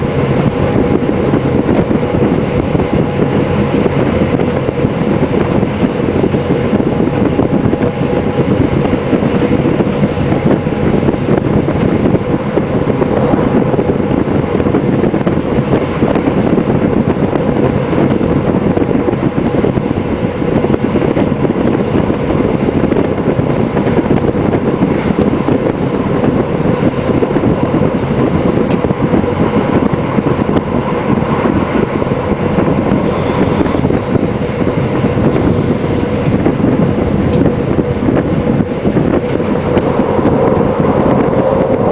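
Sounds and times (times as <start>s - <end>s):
diesel train running on rails: 0.0s - 41.9s.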